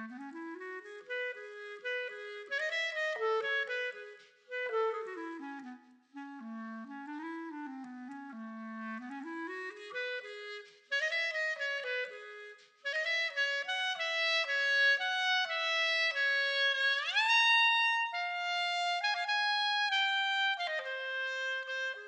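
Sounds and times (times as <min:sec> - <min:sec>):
clarinet playing quick notes: 0:00.0 - 0:22.0.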